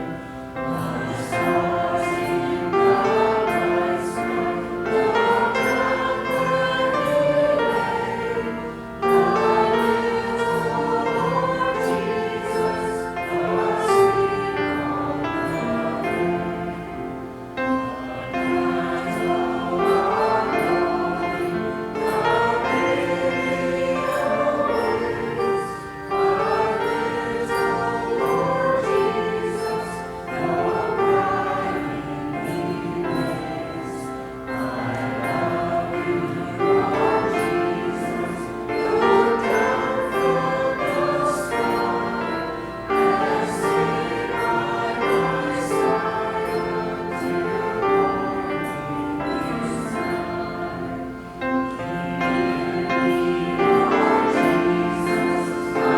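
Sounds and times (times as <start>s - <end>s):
church choir singing: 0.0s - 55.9s.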